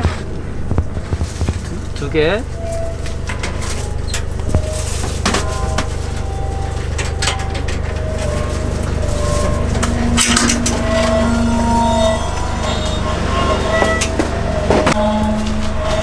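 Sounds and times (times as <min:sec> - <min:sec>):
droning tone: 0:00.0 - 0:16.0
low machine hum: 0:00.0 - 0:16.0.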